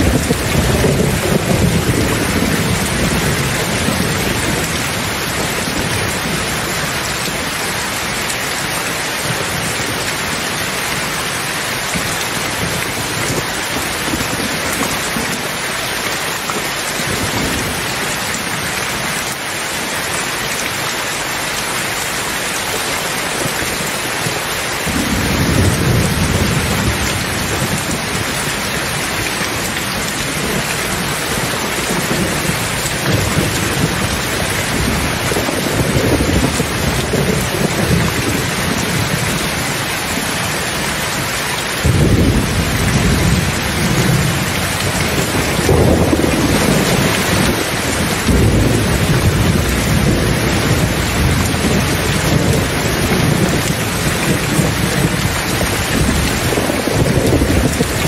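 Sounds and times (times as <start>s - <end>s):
thunder rumbling: 0.0s - 15.6s, 23.2s - 58.0s
rain falling: 0.0s - 58.0s.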